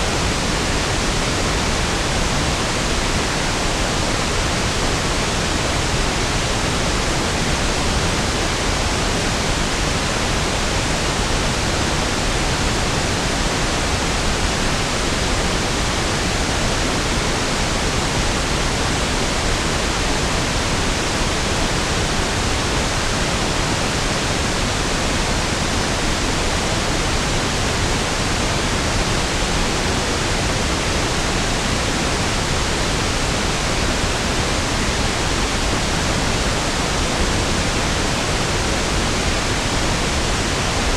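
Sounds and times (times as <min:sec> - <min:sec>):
steady pink noise hiss: 0:00.0 - 0:40.9.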